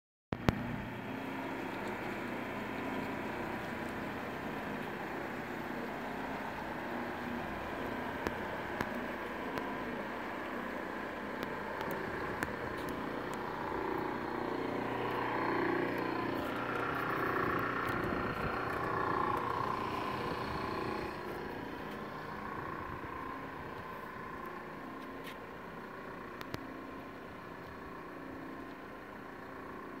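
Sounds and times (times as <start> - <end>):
jet boat engine: 0.4 - 30.0.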